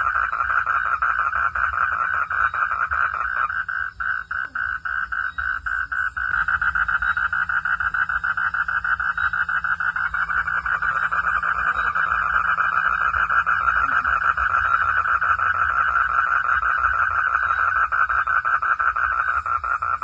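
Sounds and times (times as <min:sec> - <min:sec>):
frogs calling in chorus: 0:00.0 - 0:20.0.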